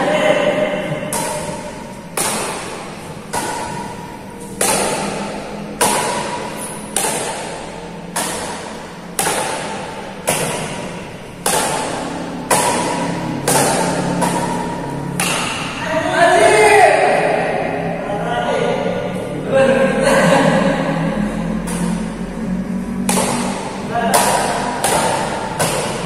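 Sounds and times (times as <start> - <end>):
badminton racket hits: 0.0 - 16.7, 21.5 - 26.0.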